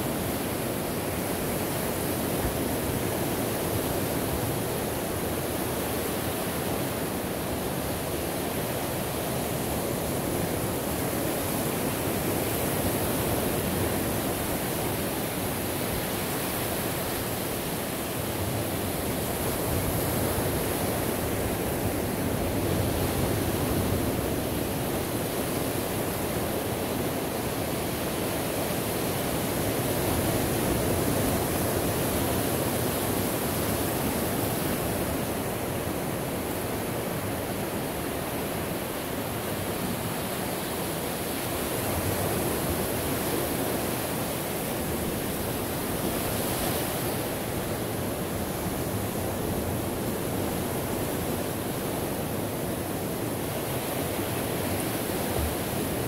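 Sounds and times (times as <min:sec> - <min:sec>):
waves breaking: 0:00.0 - 0:56.0.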